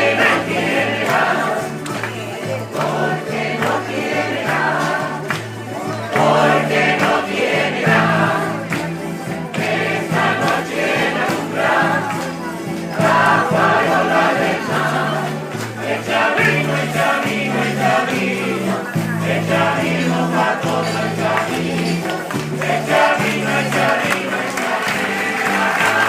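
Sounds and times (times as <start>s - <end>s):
folk instruments playing: 0.0s - 26.0s
group of voices singing: 0.0s - 26.0s.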